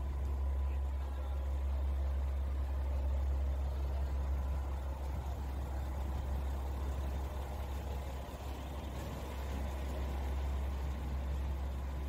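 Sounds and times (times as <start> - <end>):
railcar engine idling: 0.0 - 12.0.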